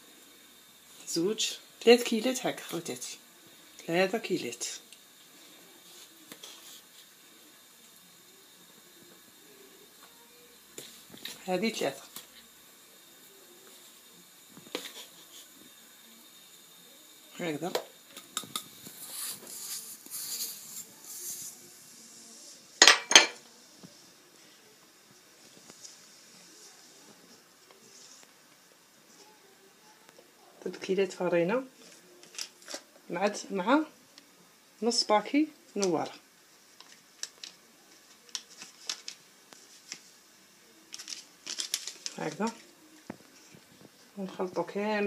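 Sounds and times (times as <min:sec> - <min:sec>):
soft scraping rustling hiss: 0:00.0 - 0:22.8, 0:23.4 - 0:45.0.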